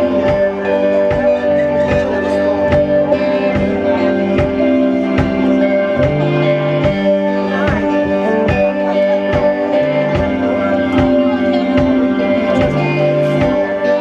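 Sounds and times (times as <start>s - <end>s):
bass guitar: 0.0s - 14.0s
drums keeping a steady beat: 0.0s - 14.0s
electric guitar: 0.0s - 14.0s.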